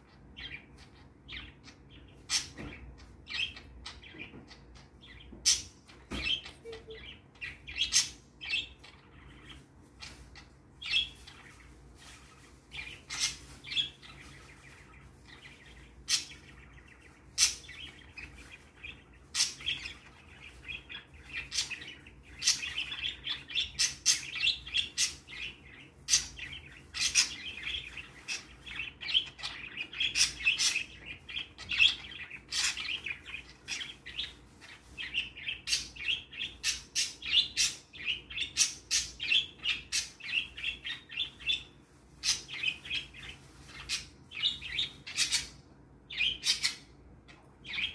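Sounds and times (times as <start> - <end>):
budgerigars chirping: 0.0 - 47.9.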